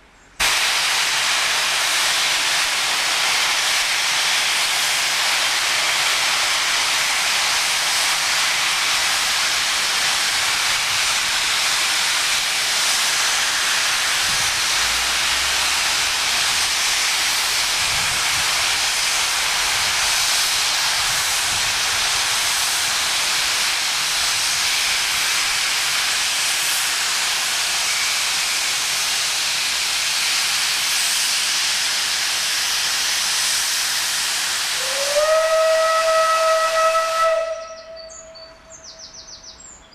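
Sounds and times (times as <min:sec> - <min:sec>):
steam locomotive hissing: 0:00.0 - 0:39.4.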